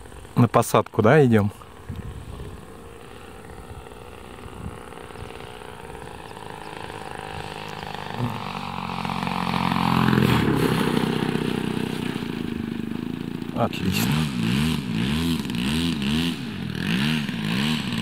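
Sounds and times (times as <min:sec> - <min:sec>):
model airplane engine running: 0:00.0 - 0:18.0.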